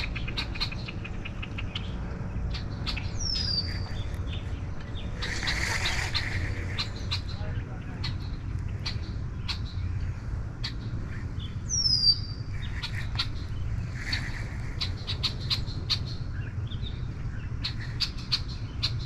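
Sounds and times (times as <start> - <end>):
bird chips and ticks: 0.0 - 19.0.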